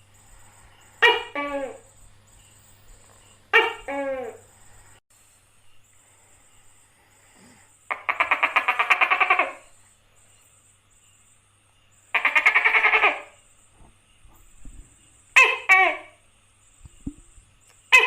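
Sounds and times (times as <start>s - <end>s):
gecko pulsed calls: 0.0s - 5.0s, 5.6s - 18.0s.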